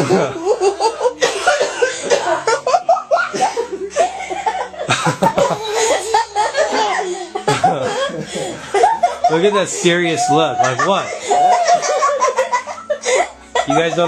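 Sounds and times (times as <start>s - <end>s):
people laughing: 0.0s - 14.0s.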